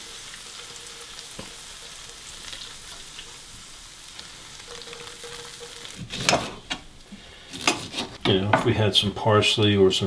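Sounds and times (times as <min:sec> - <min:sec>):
butter sizzling in a frying pan: 0:00.0 - 0:08.2.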